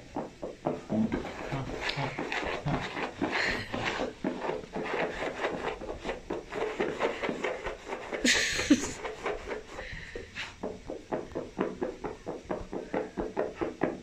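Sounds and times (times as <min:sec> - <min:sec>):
hands patting on carpet: 0:00.7 - 0:14.0.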